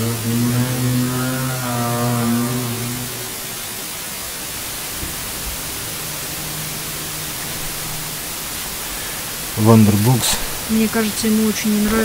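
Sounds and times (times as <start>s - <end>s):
low hum: 0.0s - 12.0s
static hiss from speaker: 0.0s - 12.0s.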